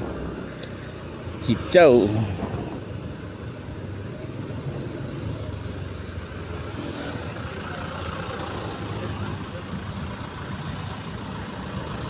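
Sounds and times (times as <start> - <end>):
motorbike traffic: 0.0 - 12.0.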